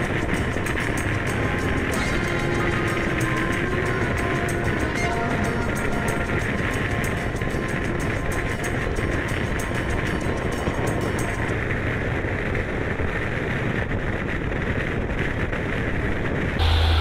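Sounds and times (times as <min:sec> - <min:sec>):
scooter engine and tyre noise: 0:00.0 - 0:17.0
wind rushing over microphone: 0:00.0 - 0:17.0.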